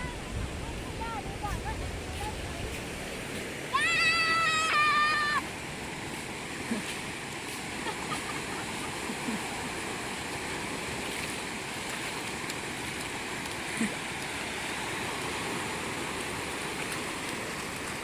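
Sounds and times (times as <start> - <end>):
sea surf breaking on beach: 0.0 - 18.0.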